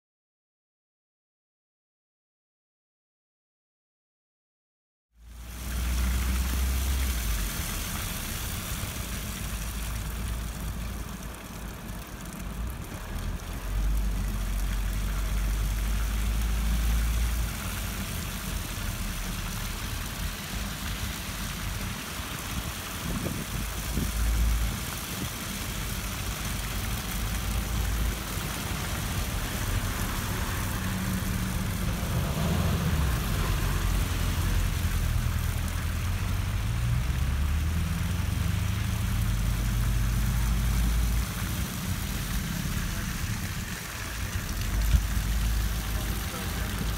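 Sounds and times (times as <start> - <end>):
vehicle engine droning: 5.2 - 46.9.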